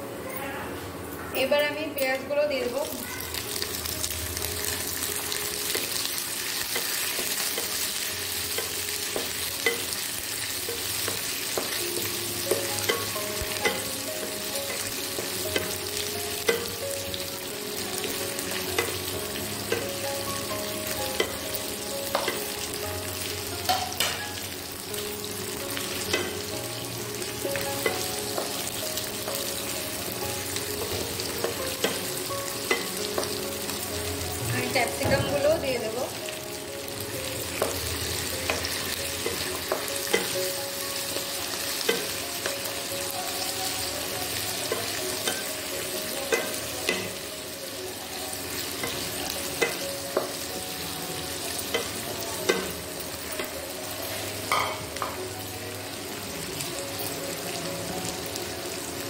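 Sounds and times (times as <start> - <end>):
onions sizzling in hot oil: 2.3 - 59.0.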